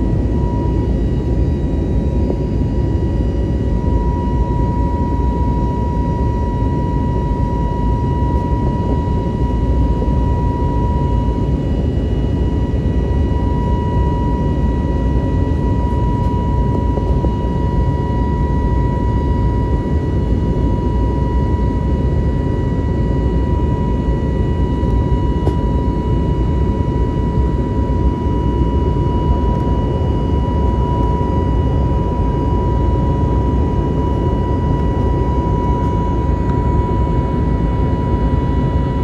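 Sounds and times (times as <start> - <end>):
jet engine and airflow roar: 0.0 - 39.0
thin whine: 0.0 - 39.0.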